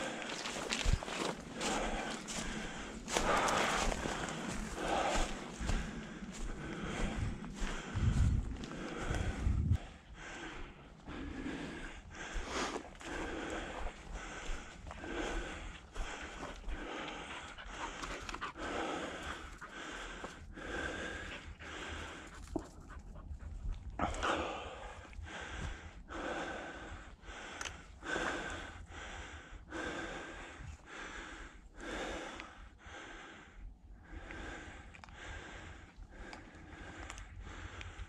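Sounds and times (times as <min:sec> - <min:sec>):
heavy rhythmic breathing: 0:00.0 - 0:38.0.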